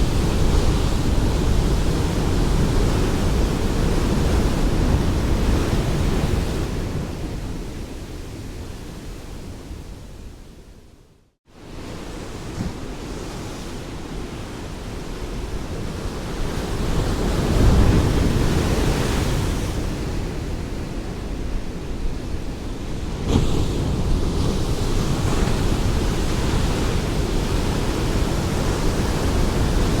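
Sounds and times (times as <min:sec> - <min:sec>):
ocean waves breaking on shore: 0:00.0 - 0:10.3, 0:11.5 - 0:30.0.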